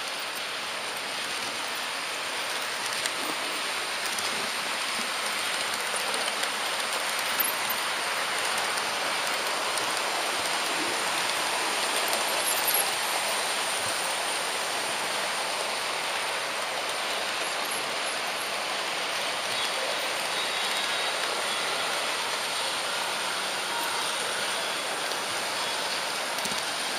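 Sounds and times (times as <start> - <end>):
model train wheels on rails: 0.0 - 26.9.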